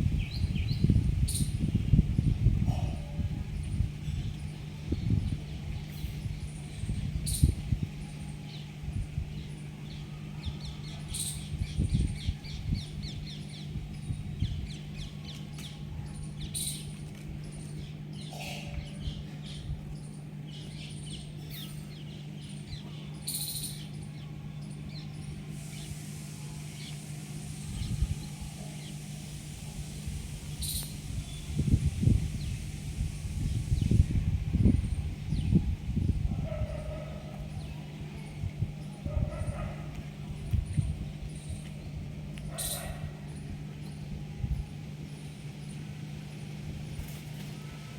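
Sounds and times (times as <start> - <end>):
birds chirping: 0.0 - 47.9
steady low hum: 0.0 - 47.9.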